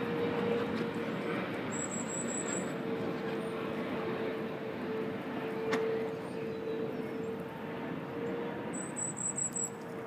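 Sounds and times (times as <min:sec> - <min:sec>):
distant engine drone: 0:00.0 - 0:10.0.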